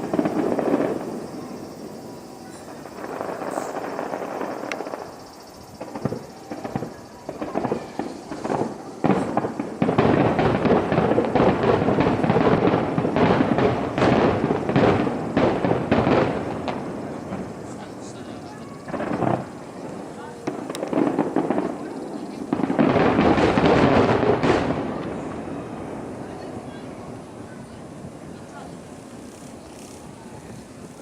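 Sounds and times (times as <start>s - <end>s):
fireworks booms: 0.0s - 31.0s
fireworks bursts and crackles: 0.0s - 31.0s.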